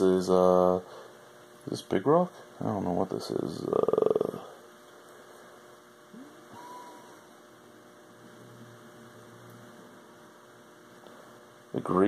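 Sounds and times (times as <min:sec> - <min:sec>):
faint electrical hum: 0:00.0 - 0:12.0
room hiss: 0:00.0 - 0:12.0.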